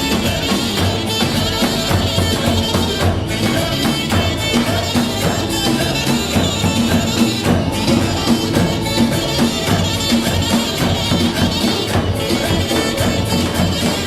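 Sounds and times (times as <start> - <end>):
folk dance music: 0.0 - 14.0
tambourine-like percussion: 0.0 - 14.0.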